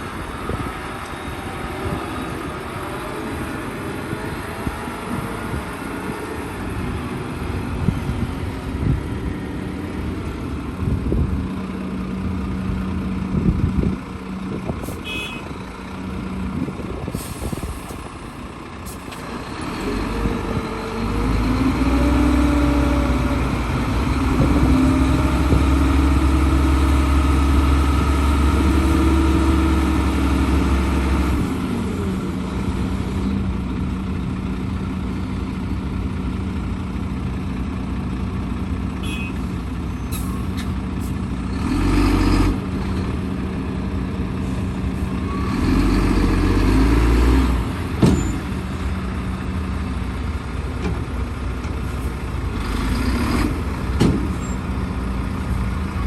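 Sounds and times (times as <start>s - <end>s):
diesel engine under load: 0.0s - 56.0s
heavy diesel machinery running: 0.0s - 56.0s.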